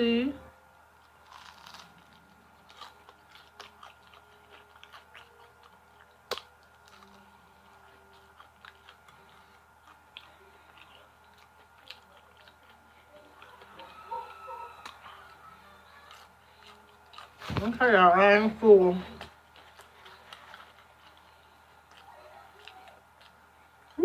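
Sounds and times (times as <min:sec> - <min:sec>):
person chewing crunchy food: 0:01.0 - 0:17.8, 0:19.1 - 0:24.0.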